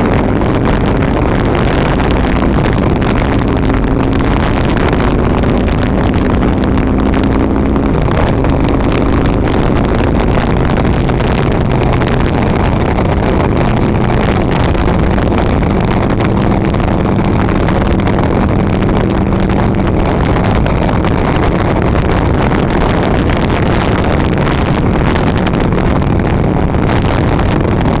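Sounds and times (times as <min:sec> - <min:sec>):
motorcycle engine cruising: 0:00.0 - 0:28.0
wind rushing: 0:00.0 - 0:28.0.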